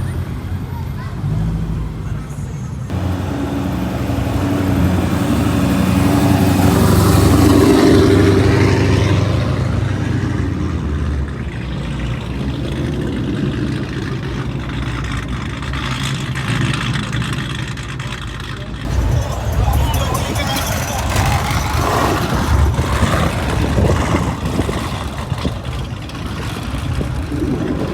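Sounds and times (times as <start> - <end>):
car accelerating and passing: 2.9 - 17.6, 18.9 - 27.9.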